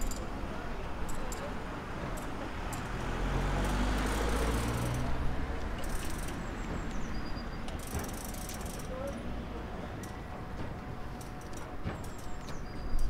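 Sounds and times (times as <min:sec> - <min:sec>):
tram rumbling past: 0:00.0 - 0:13.0.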